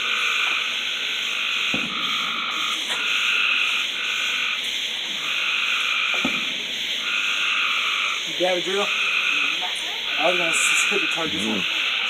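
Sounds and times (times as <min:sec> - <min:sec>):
animals trilling at night: 0:00.0 - 0:12.0.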